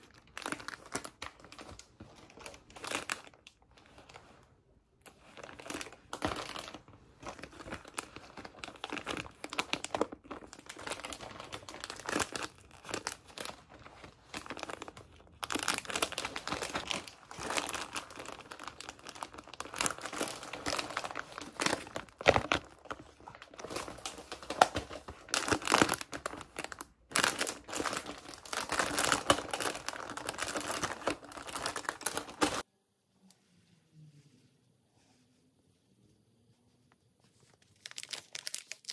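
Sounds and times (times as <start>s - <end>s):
plastic packets crinkling: 0.0s - 4.2s, 5.0s - 32.6s, 37.5s - 38.9s.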